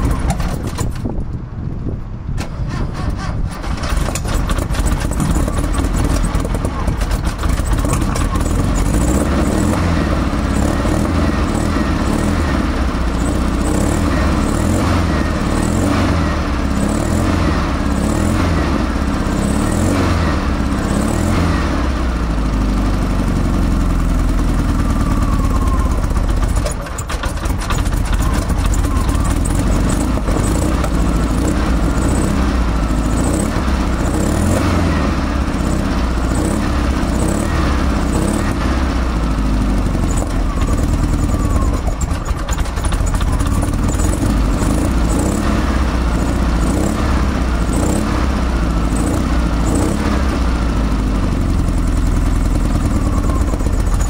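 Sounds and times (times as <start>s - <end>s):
car engine running loudly: 0.0s - 54.0s.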